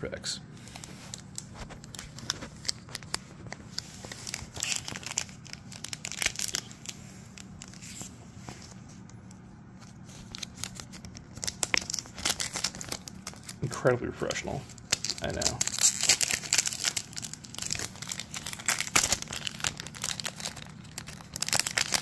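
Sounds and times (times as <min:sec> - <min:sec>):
foil wrapper crinkling and tearing: 0:00.6 - 0:08.1, 0:09.8 - 0:22.0.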